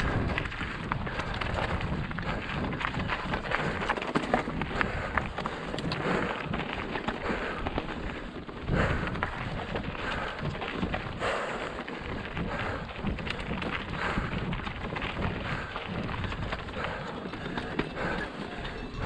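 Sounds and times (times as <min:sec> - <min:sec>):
bike clattering over rocks: 0:00.0 - 0:19.0
tyres crunching on dirt and stones: 0:00.0 - 0:19.0
wind buffeting microphone: 0:00.0 - 0:19.0.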